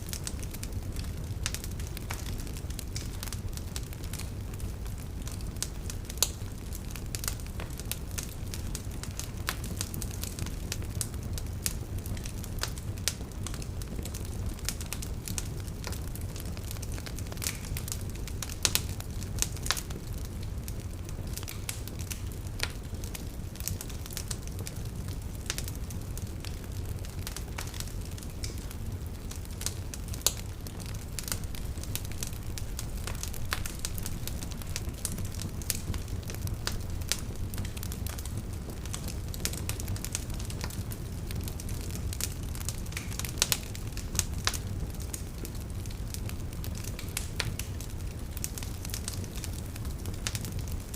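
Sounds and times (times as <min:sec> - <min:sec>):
fire crackling and popping: 0:00.0 - 0:50.9.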